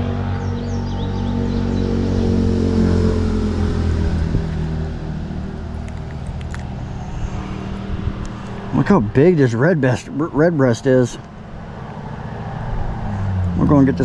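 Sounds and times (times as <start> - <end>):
engine drone passing by: 0.0 - 14.0.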